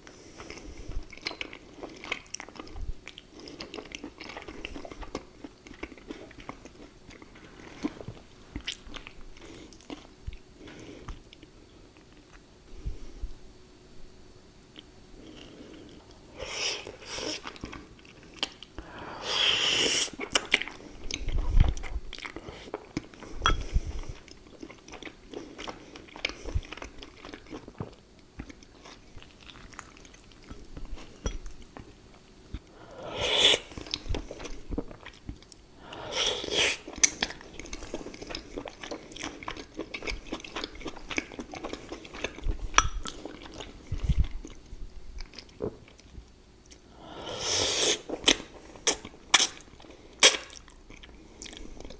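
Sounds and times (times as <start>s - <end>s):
close chewing and crunching: 0.0s - 12.4s, 20.0s - 32.8s, 33.6s - 46.9s, 48.0s - 51.9s.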